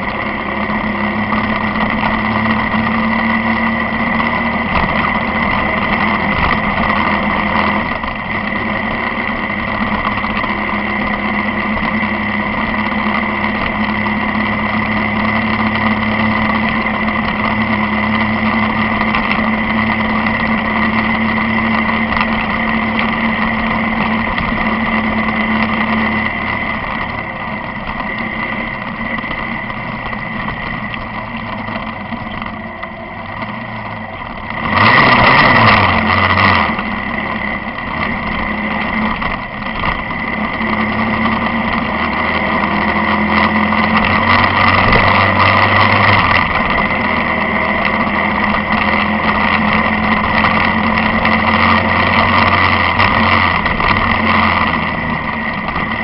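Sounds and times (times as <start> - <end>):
road noise: 0.0 - 56.0
vehicle engine running: 0.0 - 56.0.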